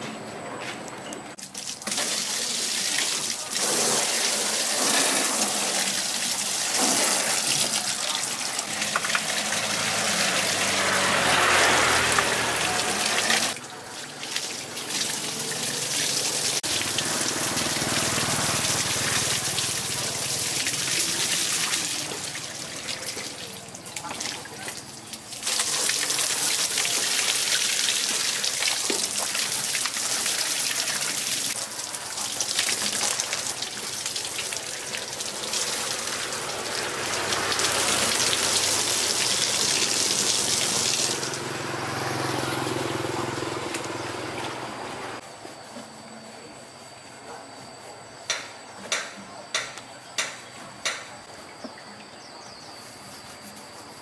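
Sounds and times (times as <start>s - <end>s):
water spraying in hissing jet: 1.4s - 45.2s.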